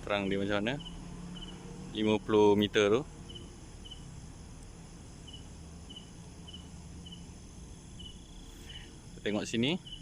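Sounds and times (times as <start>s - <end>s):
cricket chirping: 0.0s - 10.0s
low steady background noise: 0.0s - 10.0s.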